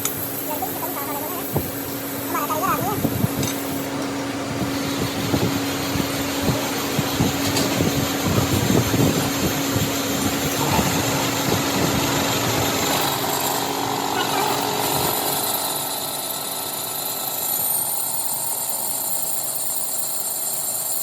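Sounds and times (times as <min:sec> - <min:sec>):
factory machinery humming: 0:00.0 - 0:21.0.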